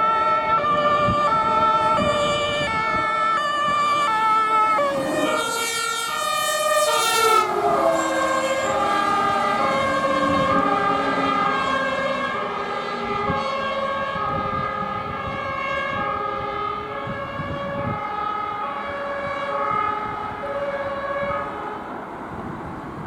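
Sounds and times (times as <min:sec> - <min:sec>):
truck engine rumbling: 0:00.0 - 0:23.0
two-tone fire engine sirens: 0:00.0 - 0:23.0.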